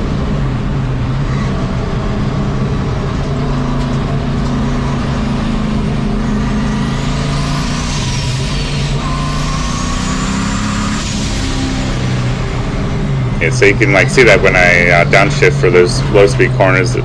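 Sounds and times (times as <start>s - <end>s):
high-pitched turbo whine: 0.0s - 17.0s
race truck engine running: 0.0s - 17.0s.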